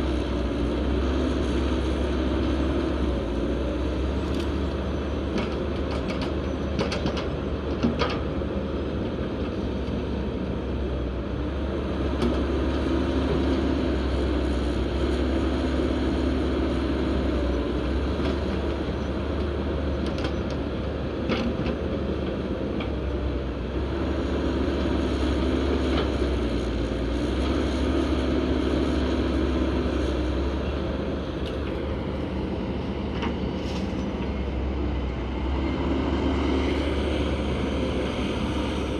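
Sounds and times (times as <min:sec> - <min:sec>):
heavy truck engine running: 0:00.0 - 0:38.9.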